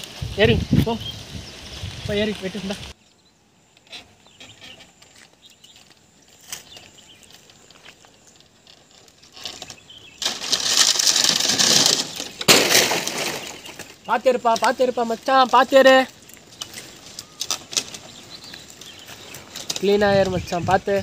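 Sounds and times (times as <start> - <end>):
dry palm fronds rustling: 0.0 - 3.0, 3.8 - 21.0
faint crackles: 3.7 - 21.0.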